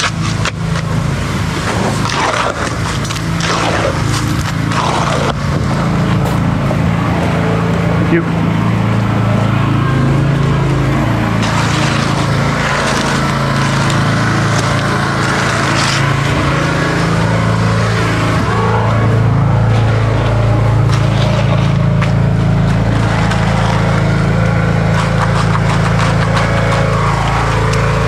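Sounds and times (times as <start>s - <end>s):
machine engine running: 0.0s - 28.0s.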